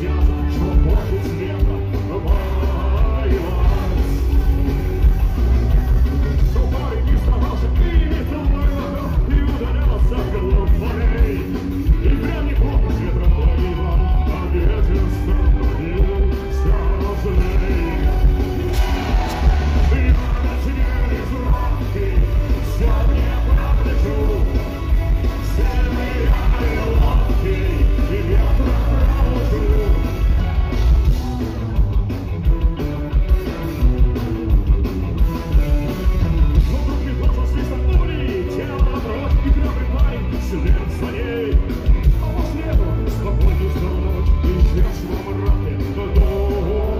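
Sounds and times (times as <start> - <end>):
person singing: 0.0 - 31.6, 36.6 - 46.9
punk rock band playing live: 0.0 - 46.9.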